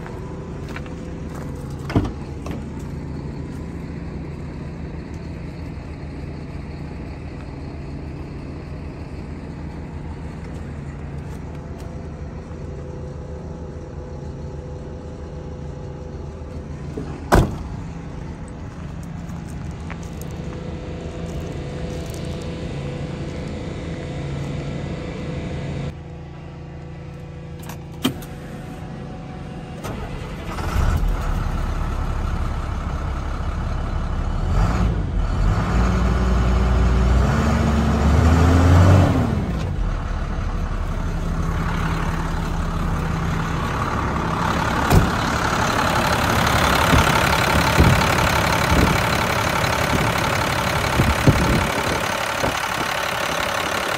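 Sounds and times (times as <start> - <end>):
diesel engine starting and idling: 0.0 - 53.9.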